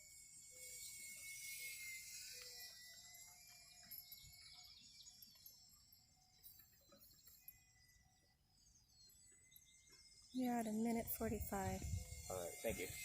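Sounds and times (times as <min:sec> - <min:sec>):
rc plane motor whine: 0:00.0 - 0:13.0.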